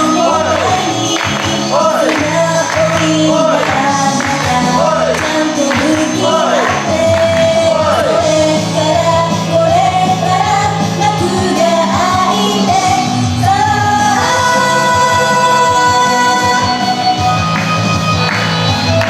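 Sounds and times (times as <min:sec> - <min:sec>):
woman singing: 0:00.0 - 0:17.2
pop backing track with bass: 0:00.0 - 0:19.0.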